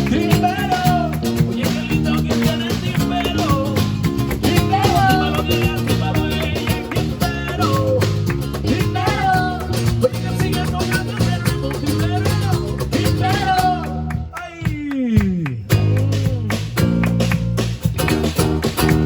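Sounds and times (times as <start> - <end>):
flamenco rumba music: 0.0 - 19.0.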